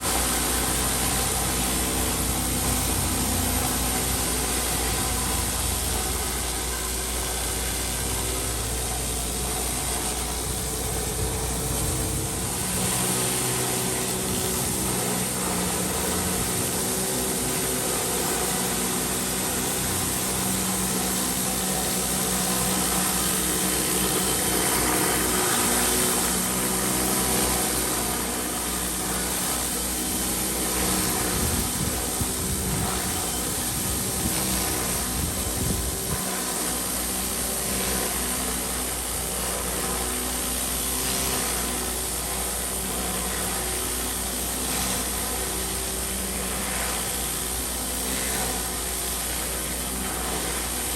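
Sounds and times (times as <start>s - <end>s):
pressure washer engine running: 0.0s - 50.9s.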